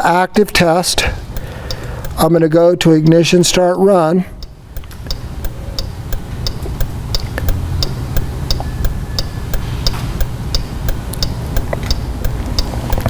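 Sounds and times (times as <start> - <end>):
low steady hum: 0.0 - 13.0
hazard flashers ticking: 0.6 - 3.7, 4.3 - 13.0.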